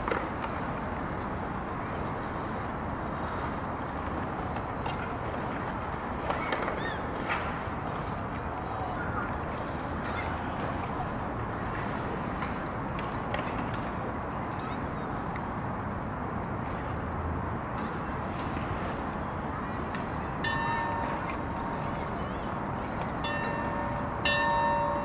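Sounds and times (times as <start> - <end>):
river background noise: 0.0 - 25.0.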